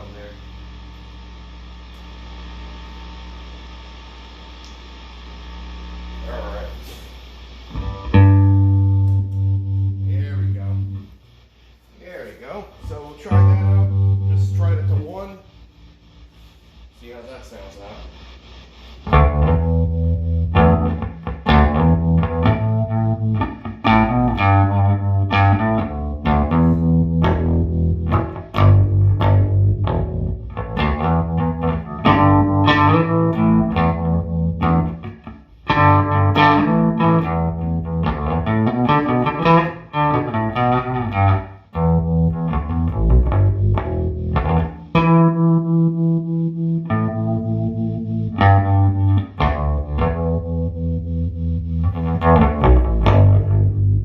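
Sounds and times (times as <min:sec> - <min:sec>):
electric bass riff with vibrato: 0:06.8 - 0:11.4, 0:12.8 - 0:16.9, 0:19.0 - 0:54.0.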